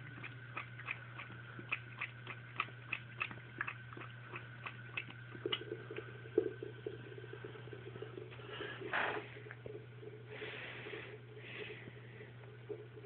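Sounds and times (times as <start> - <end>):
cat lapping water: 0.0 - 13.0
faucet trickle: 0.0 - 13.0.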